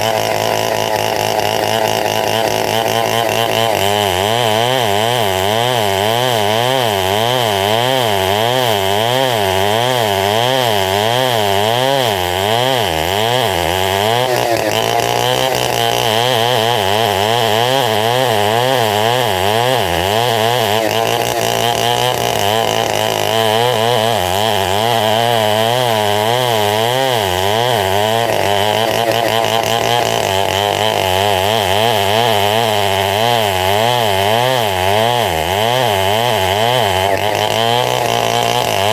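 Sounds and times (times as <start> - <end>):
sawmill engine sawing wood: 0.0 - 38.9.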